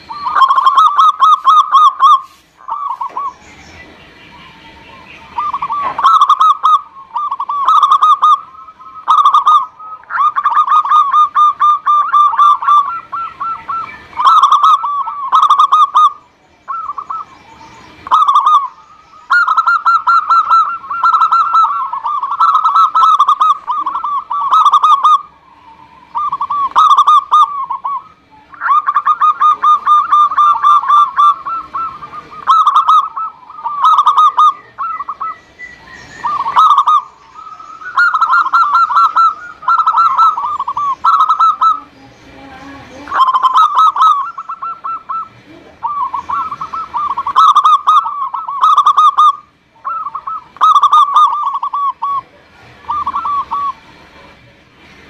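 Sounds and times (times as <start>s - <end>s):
dove cooing: 0.0s - 54.6s.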